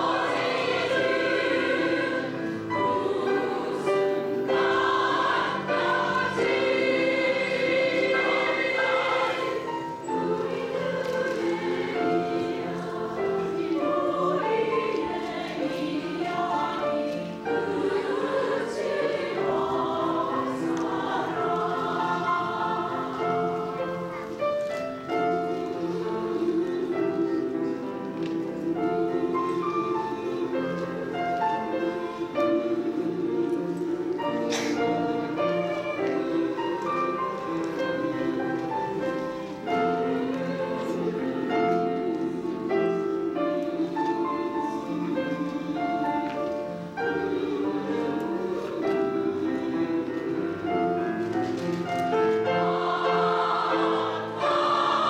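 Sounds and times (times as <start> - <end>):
piano accompaniment: 0.0 - 55.0
women's choir singing: 0.0 - 55.0.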